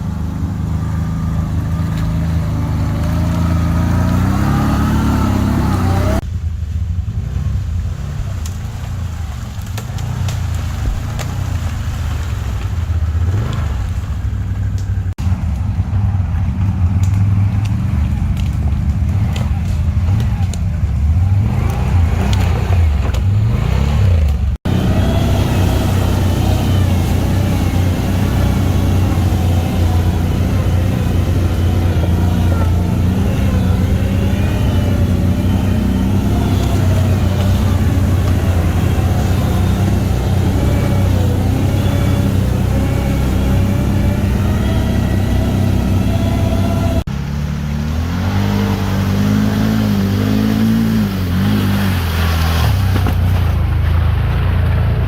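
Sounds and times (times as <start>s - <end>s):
atv engine revving: 0.0s - 6.4s, 7.1s - 55.0s.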